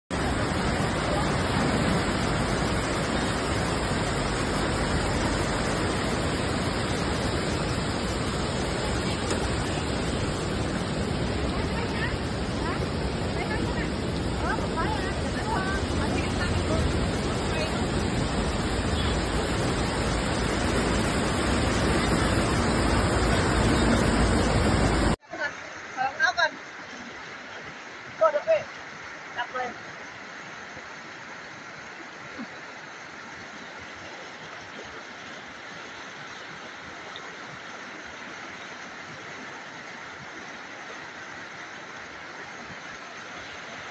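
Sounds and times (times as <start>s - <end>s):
flood water rushing: 0.1s - 43.9s.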